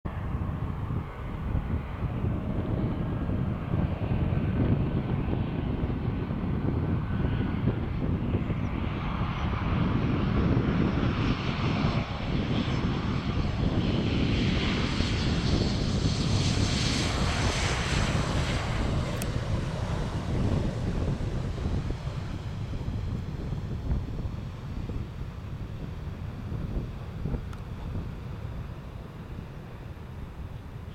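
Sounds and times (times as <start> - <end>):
jet engines landing: 0.1 - 30.9.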